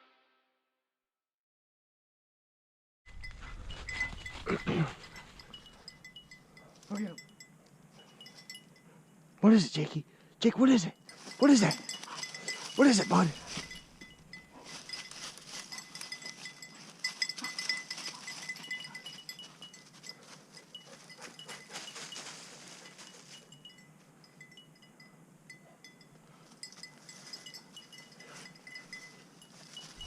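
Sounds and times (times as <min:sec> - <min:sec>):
small collar bell jingling: 0:03.1 - 0:09.3, 0:10.5 - 0:30.0.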